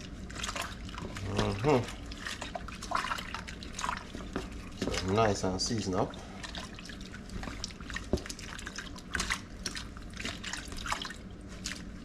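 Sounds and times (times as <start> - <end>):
wet squelches of hands mixing fish: 0.0 - 12.0.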